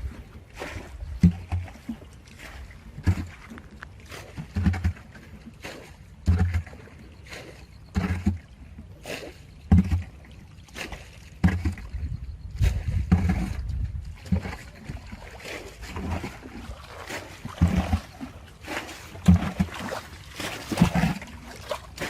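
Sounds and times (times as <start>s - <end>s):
low thuds with splashes: 0.0s - 22.0s
water splashing and sloshing: 0.0s - 22.0s.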